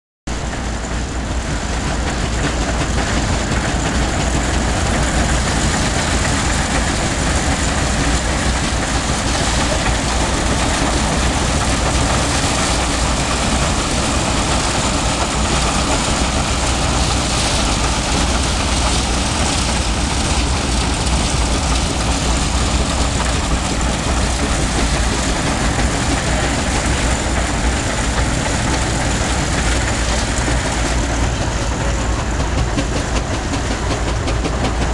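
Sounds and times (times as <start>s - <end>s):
steam engine driving threshing machine: 0.3s - 34.9s.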